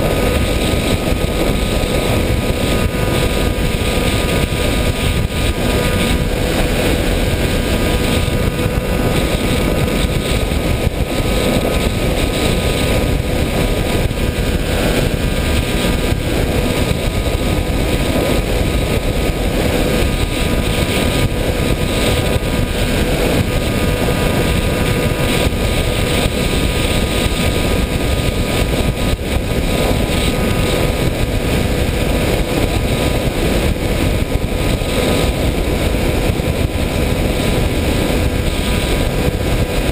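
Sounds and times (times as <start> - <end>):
model aircraft motor: 0.0 - 39.9
rushing wind: 0.0 - 39.9.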